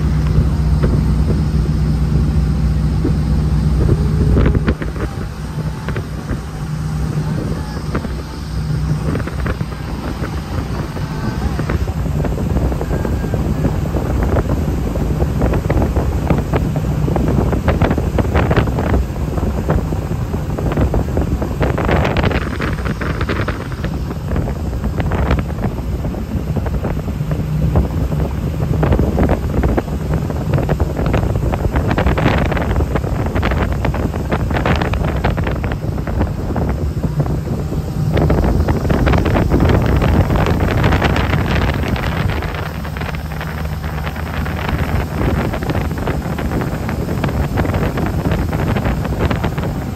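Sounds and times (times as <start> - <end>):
jet boat engine drone: 0.0 - 49.9
wind buffeting microphone: 0.0 - 49.9.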